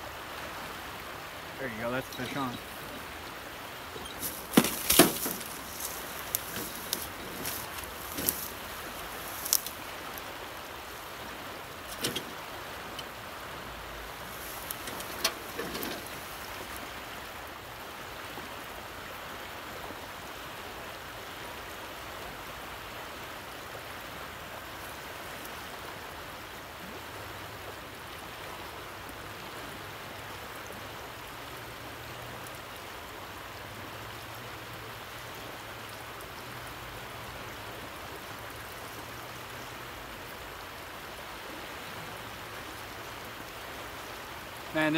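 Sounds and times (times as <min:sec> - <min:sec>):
river current rushing: 0:00.0 - 0:44.9.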